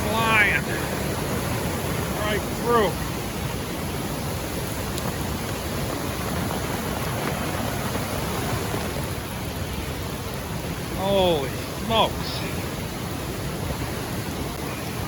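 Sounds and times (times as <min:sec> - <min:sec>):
rain falling: 0:00.0 - 0:15.0
river rushing: 0:00.0 - 0:15.0.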